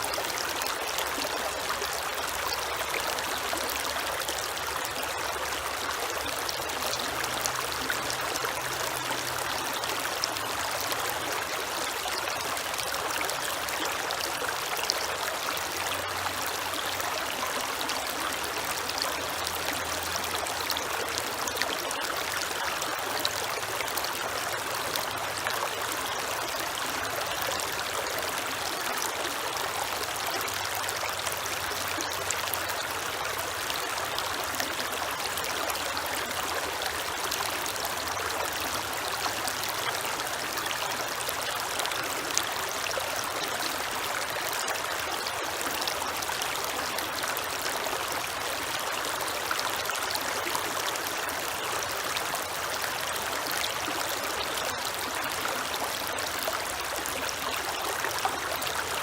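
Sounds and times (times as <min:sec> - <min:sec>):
creek water flowing: 0:00.0 - 0:59.0.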